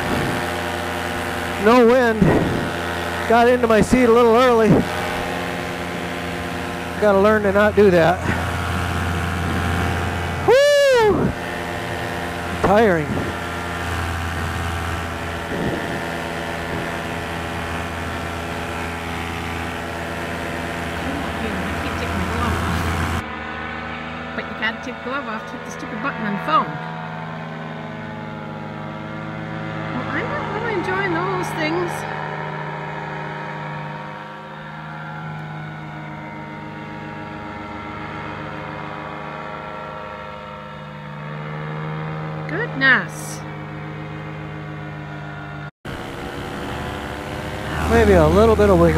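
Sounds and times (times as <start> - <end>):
paramotor engine droning: 0.0 - 48.9.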